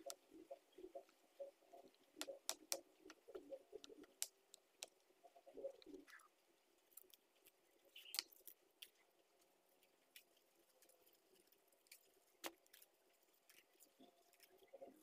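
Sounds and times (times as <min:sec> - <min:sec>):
faint sharp clicks and taps: 0:00.0 - 0:15.0.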